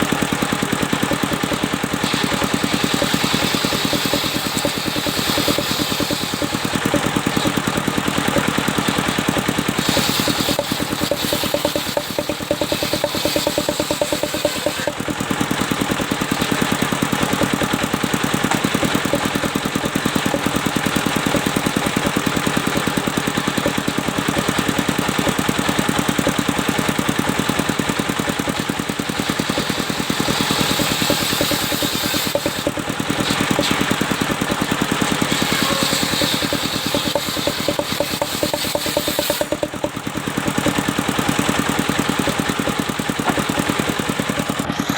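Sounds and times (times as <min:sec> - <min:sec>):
sawmill engine chugging: 0:00.0 - 0:44.9.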